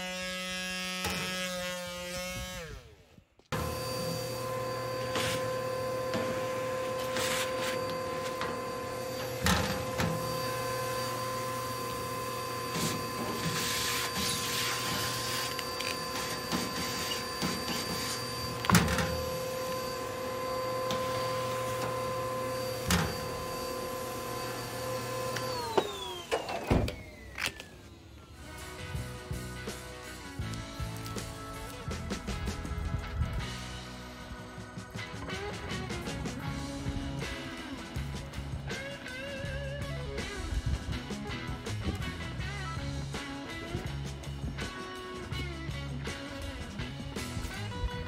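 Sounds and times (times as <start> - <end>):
vacuum cleaner whining: 0.0 - 33.4, 34.2 - 48.0.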